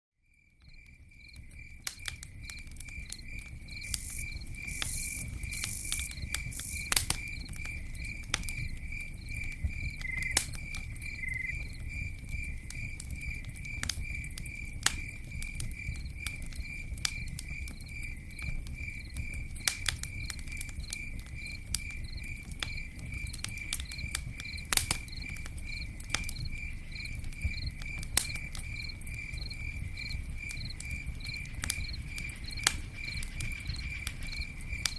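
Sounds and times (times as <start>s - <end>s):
cricket chirping: 0.2s - 34.9s
campfire crackling: 0.3s - 34.9s.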